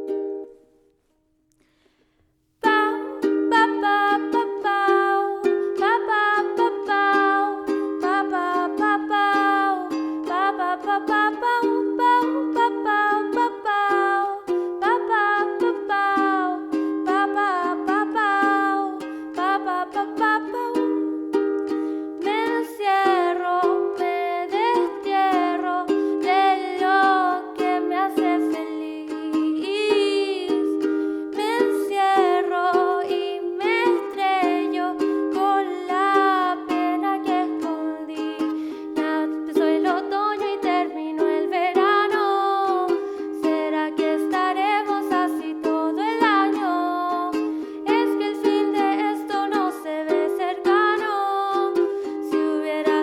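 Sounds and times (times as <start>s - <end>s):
person singing wavering melody: 2.6s - 53.0s
strummed acoustic string instrument: 2.6s - 53.0s.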